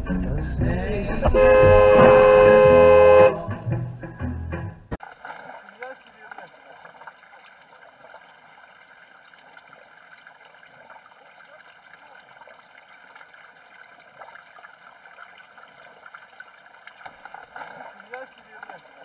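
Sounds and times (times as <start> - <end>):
floodwater sloshing around vehicles: 1.2 - 3.4, 5.0 - 19.0.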